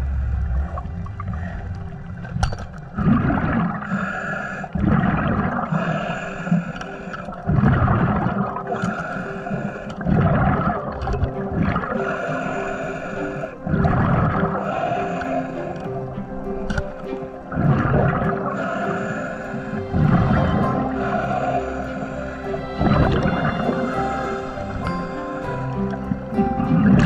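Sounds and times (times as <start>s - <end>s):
exhaled bubbles rushing: 0.0s - 6.2s, 7.1s - 8.9s, 9.6s - 27.0s.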